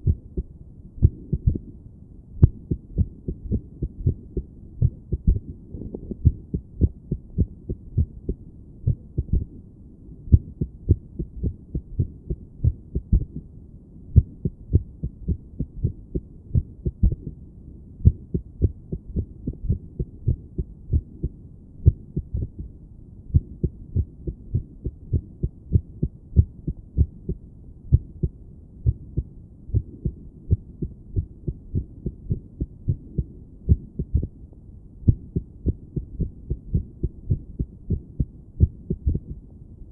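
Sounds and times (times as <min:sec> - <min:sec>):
heartbeat through a stethoscope: 0:00.0 - 0:01.8, 0:02.4 - 0:09.6, 0:10.3 - 0:17.4, 0:18.0 - 0:34.4, 0:35.0 - 0:39.5.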